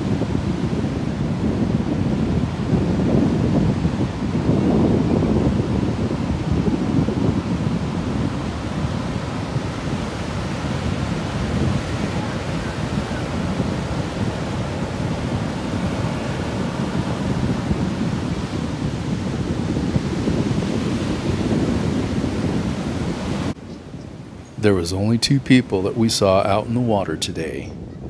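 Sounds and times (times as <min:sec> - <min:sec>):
ocean waves breaking: 0:00.0 - 0:23.6, 0:24.2 - 0:27.6.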